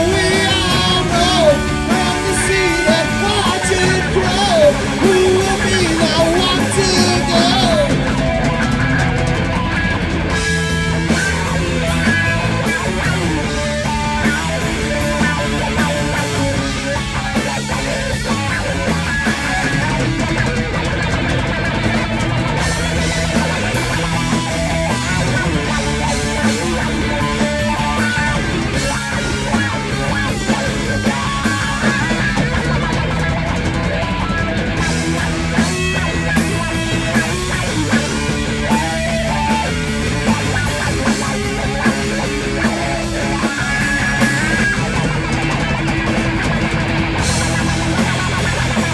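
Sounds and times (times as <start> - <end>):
bass guitar: 0.0 - 48.9
drum kit: 0.0 - 48.9
heavy electric guitar riffing: 0.0 - 48.9.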